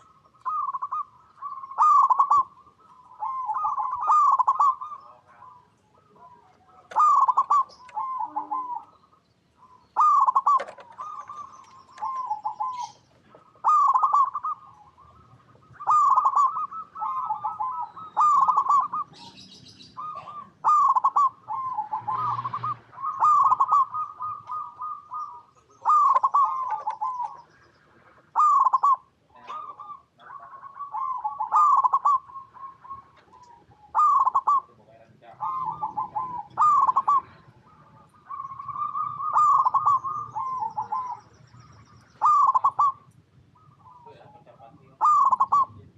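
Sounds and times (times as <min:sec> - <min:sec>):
doves cooing: 0:00.0 - 0:45.9.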